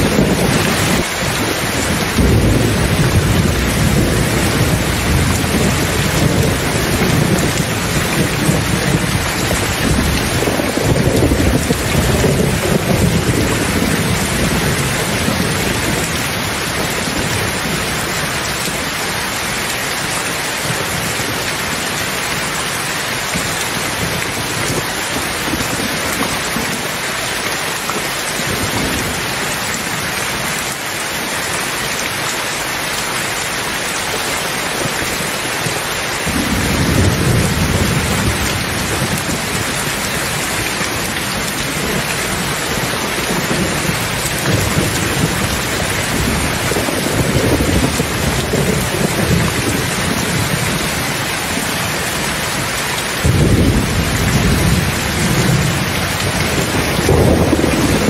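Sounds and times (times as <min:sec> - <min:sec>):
thunder rumbling: 0:00.0 - 0:27.0, 0:34.8 - 0:58.0
heavy rain: 0:00.0 - 0:58.0.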